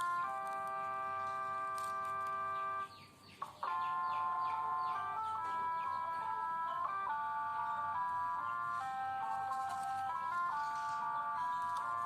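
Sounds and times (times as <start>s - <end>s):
electronic melody: 0.0s - 12.0s.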